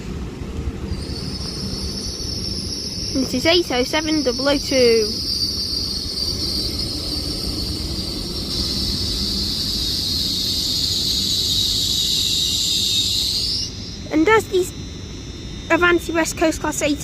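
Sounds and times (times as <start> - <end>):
low train rumble: 0.0 - 17.0
train brakes squealing: 0.6 - 17.0.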